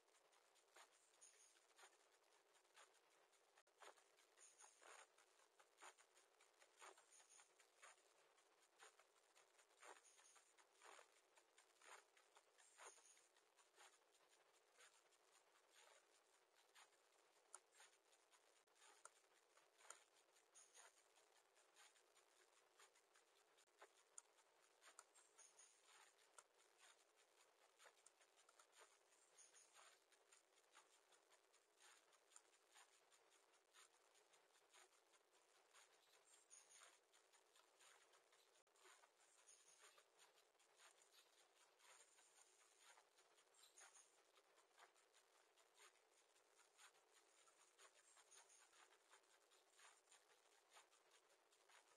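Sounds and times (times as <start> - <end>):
faint rustling of nest material: 0.0 - 51.9.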